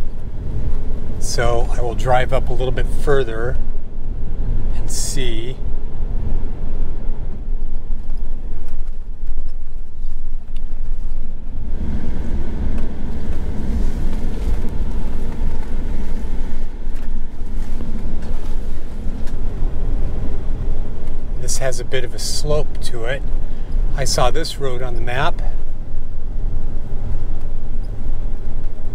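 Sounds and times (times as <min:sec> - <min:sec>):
vehicle engine rumble: 0:00.0 - 0:28.9.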